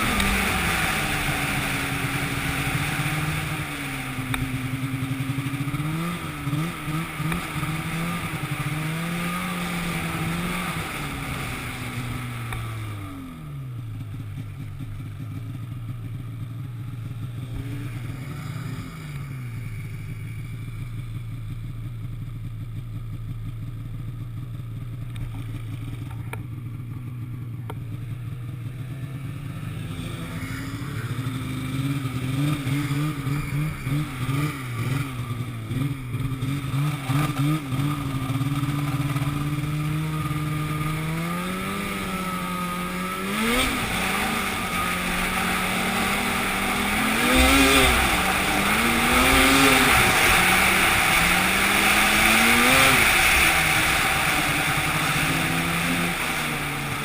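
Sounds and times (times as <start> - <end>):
engine revving and idling: 0.0 - 57.0.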